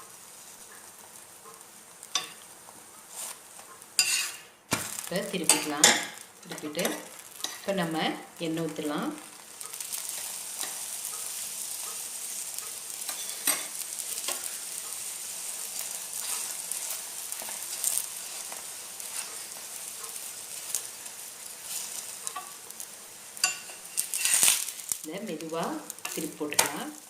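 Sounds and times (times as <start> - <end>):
flatbread sizzling in oil: 0.0 - 27.0.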